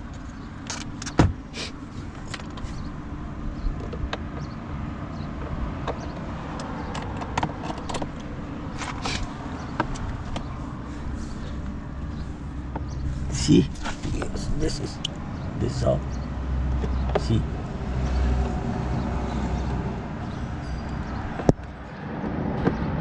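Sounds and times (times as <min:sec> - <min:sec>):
low outdoor rumble: 0:00.0 - 0:23.0.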